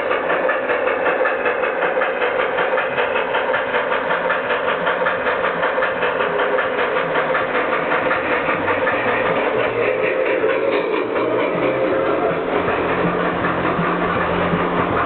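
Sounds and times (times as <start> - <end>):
model train rhythmic clatter: 0.0 - 15.0.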